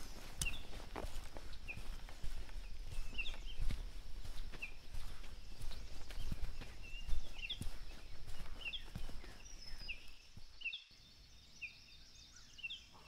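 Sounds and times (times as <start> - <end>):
footsteps on forest floor: 0.0 - 10.7
small birds chirping: 0.0 - 13.0.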